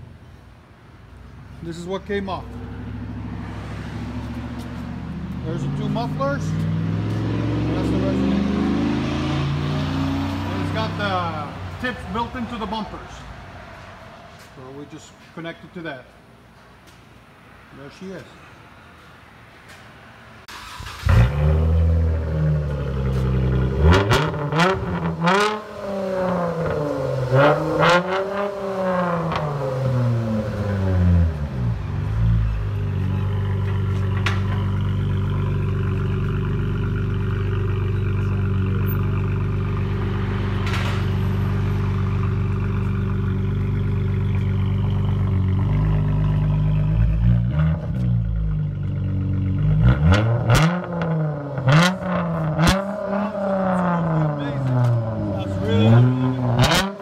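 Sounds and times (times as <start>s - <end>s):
loud car engine revving and idling: 2.5s - 12.7s, 20.6s - 57.0s.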